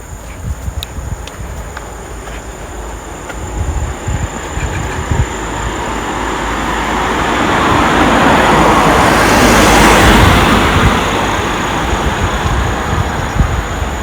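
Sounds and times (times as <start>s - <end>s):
vehicle passing by: 2.0s - 14.0s.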